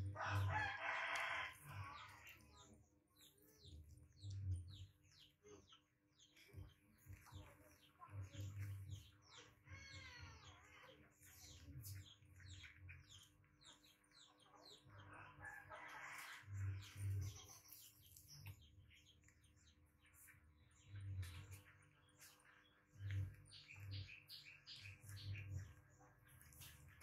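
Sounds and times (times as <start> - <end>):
faint birds chirping: 0.0 - 27.0.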